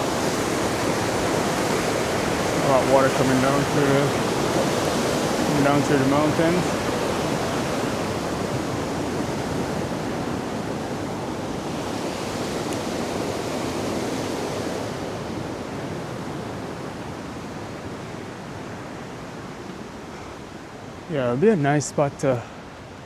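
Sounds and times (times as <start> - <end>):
mountain stream rushing over rocks: 0.0 - 23.0.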